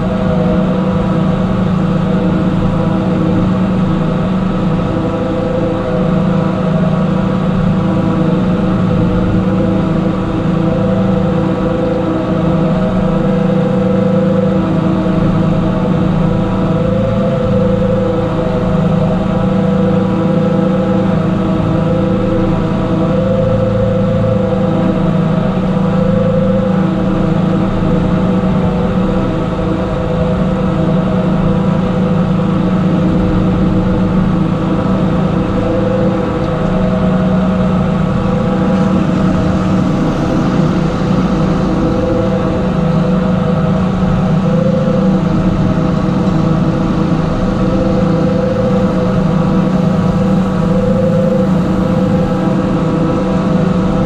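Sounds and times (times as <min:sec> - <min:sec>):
mixer machinery tone: 0:00.0 - 0:54.0
tractor engine running: 0:00.0 - 0:54.0.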